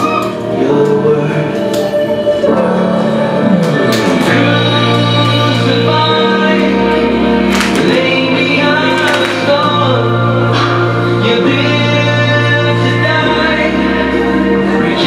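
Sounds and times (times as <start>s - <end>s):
worship song singing: 0.0s - 15.0s.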